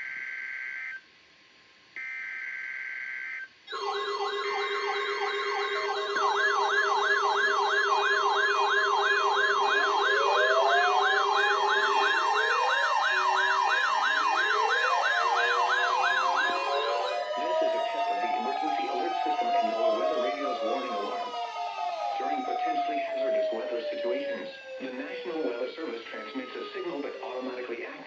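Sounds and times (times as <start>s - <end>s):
steady alarm tone: 2.0s - 27.6s
rising siren sweeps: 3.7s - 28.0s.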